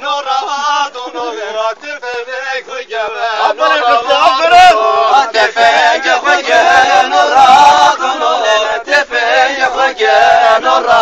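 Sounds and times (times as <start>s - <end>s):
man singing folk song: 0.0s - 11.0s.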